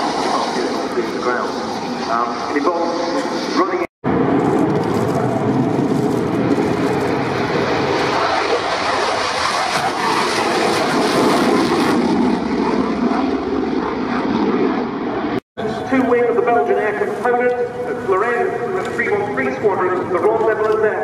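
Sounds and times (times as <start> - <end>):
jet engine with afterburner: 0.0 - 21.0.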